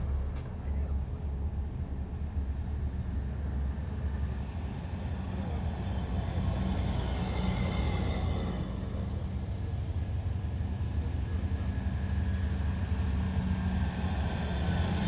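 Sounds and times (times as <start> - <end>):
heavy vehicle engines rumbling: 0.0 - 15.0
high whine of vehicle: 0.0 - 15.0.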